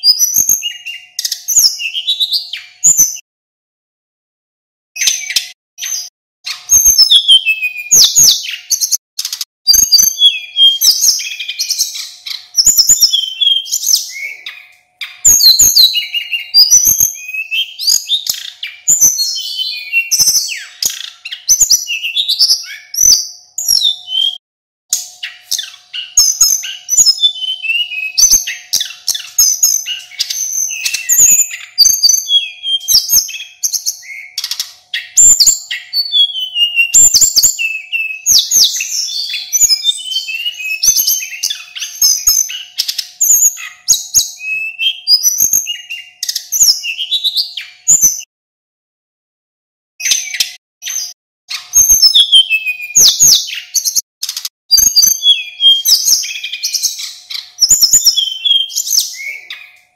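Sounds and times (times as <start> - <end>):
bird singing chirps and trills: 0.0 - 3.2, 5.0 - 48.3, 50.0 - 59.9.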